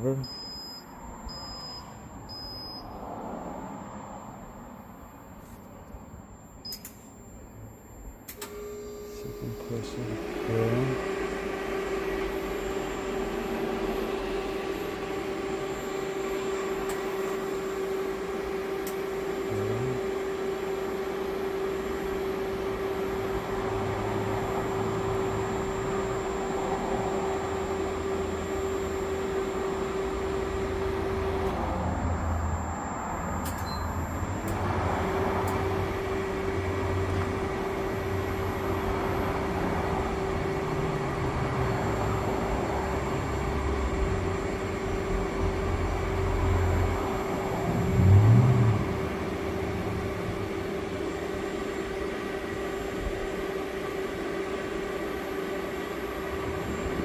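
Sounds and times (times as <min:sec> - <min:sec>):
machine humming: 0:00.0 - 0:57.0.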